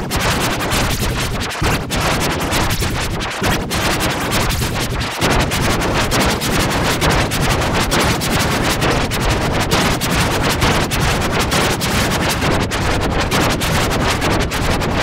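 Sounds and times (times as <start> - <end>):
heavily distorted music noise: 0.0 - 15.0.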